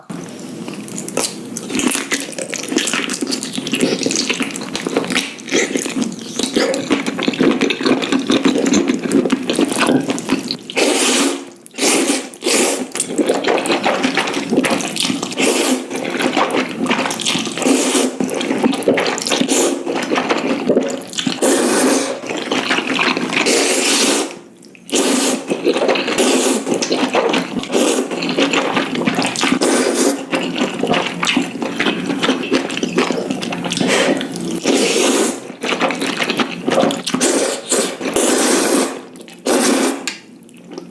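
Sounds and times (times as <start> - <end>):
noodles being slurped: 0.1 - 40.9.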